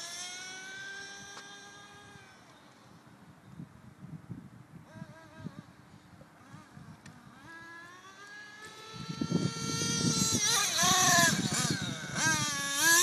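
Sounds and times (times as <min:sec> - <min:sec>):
rc car nitro engine buzzing: 0:00.0 - 0:03.0, 0:04.8 - 0:13.0.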